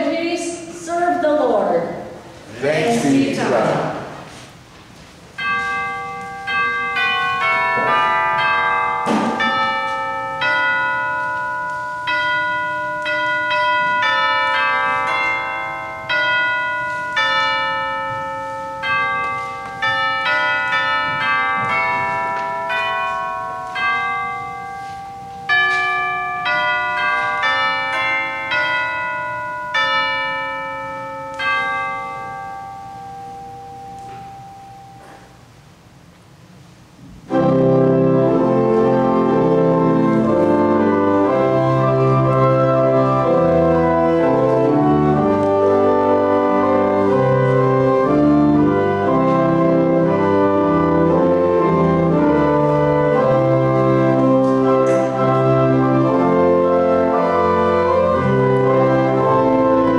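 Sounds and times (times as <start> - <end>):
bells playing slow melody: 5.3 - 35.6, 37.3 - 59.9.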